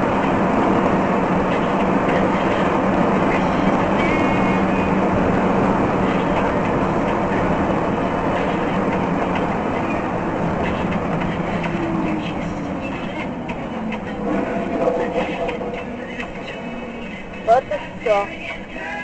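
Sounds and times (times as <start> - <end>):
moving vehicle rumble: 0.0 - 19.0.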